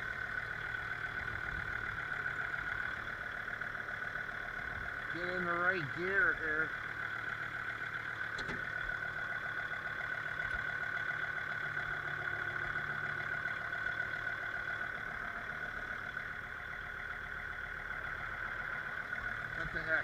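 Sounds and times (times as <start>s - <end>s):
tractor diesel engine whining: 0.0s - 20.0s.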